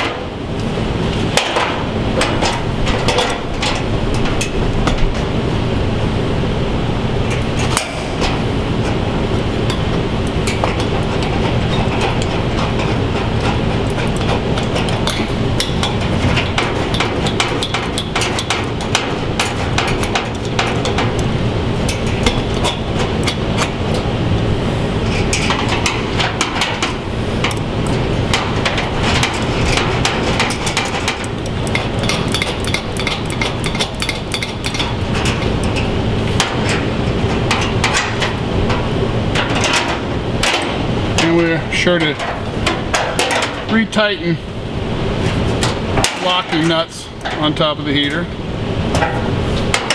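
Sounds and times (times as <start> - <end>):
loud mechanical hum: 0.0 - 49.9.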